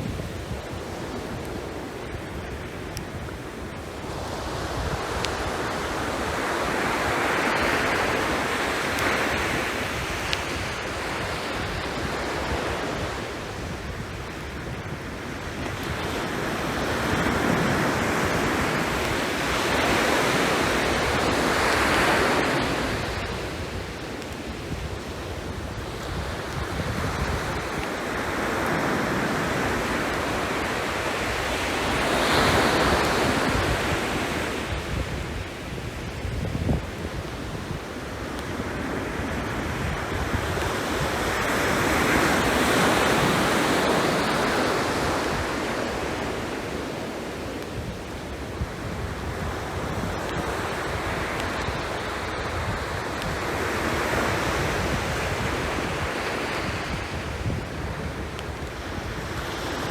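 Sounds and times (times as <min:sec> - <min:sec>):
sea waves washing ashore: 0:00.0 - 0:59.9
wind on microphone: 0:00.0 - 0:59.9.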